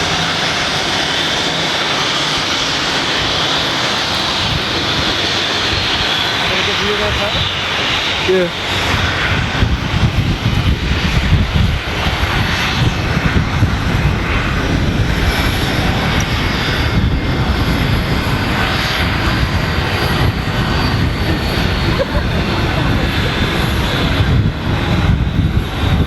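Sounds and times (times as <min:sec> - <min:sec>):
jet engine running: 0:00.0 - 0:26.0.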